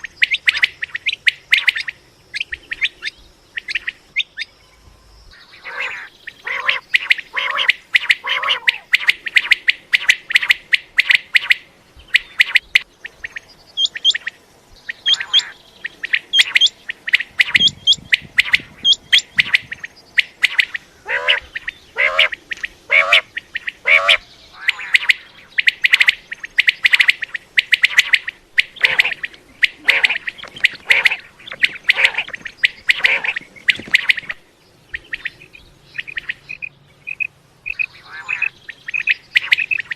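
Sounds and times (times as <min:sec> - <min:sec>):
quail calling: 0:00.0 - 0:04.5, 0:05.4 - 0:39.9.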